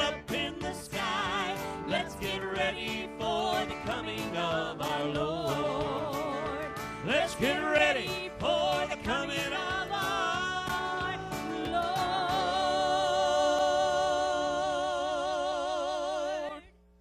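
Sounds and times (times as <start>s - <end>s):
vocal trio singing: 0.0s - 16.7s.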